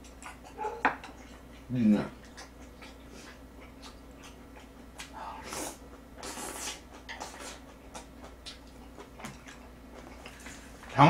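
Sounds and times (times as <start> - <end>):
person chewing: 0.0 - 10.8.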